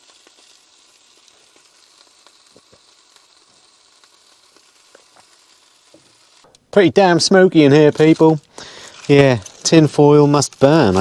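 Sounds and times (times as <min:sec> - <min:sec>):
meat sizzling in foil: 0:00.0 - 0:11.0.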